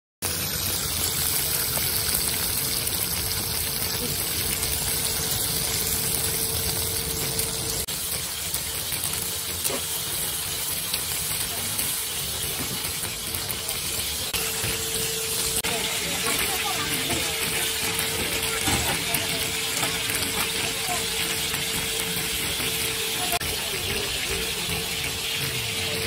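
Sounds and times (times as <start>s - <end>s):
chicken sizzling on a griddle: 0.2s - 26.0s.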